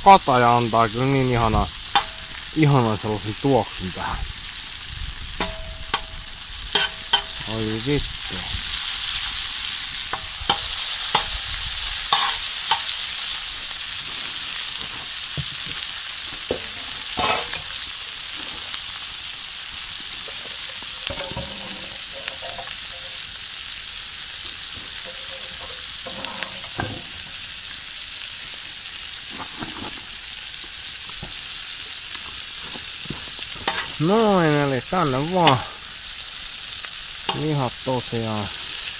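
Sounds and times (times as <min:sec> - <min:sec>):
meat sizzling in butter: 0:00.0 - 0:38.9.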